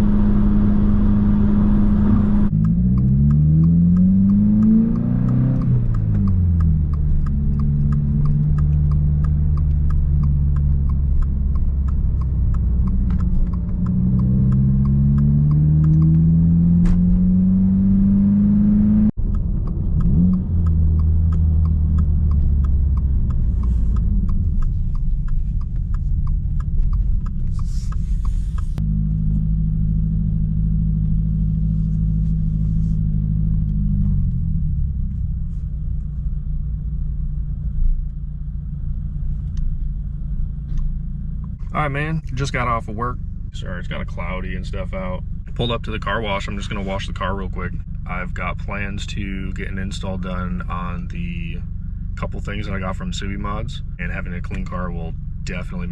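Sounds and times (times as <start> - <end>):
car engine accelerating: 0.0 - 55.9
road rumble: 0.0 - 55.9.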